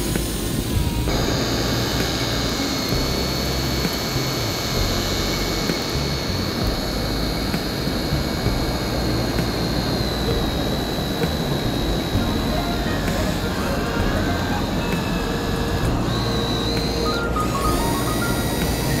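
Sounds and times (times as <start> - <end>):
low rumbling noise: 0.0 - 19.0
toy excavator motors whining: 0.0 - 19.0.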